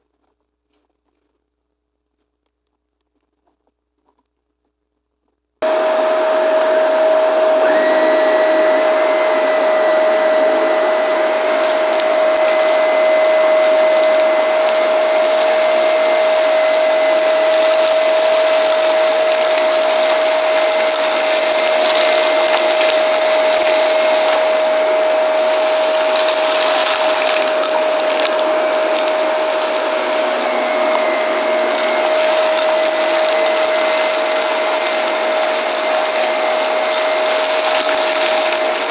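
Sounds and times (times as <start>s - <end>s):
debris crackling in vacuum: 5.6s - 38.9s
vacuum cleaner motor whine: 5.6s - 38.9s.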